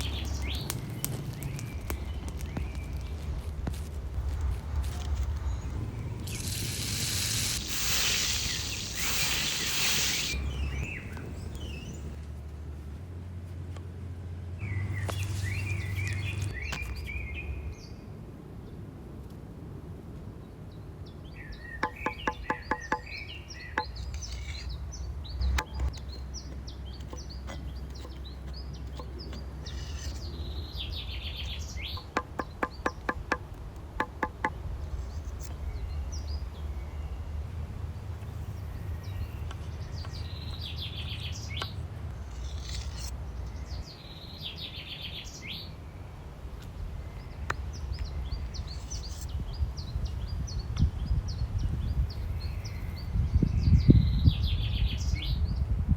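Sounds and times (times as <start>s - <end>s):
birds chirping: 0.0s - 3.8s, 4.8s - 12.2s, 14.6s - 18.1s, 21.1s - 55.6s.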